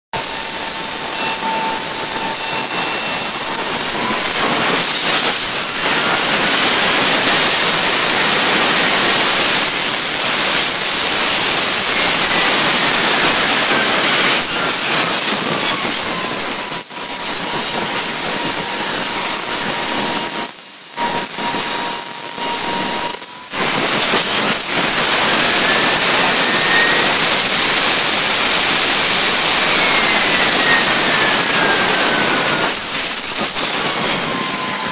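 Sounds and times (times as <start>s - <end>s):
high turbine whine: 0.1s - 34.9s.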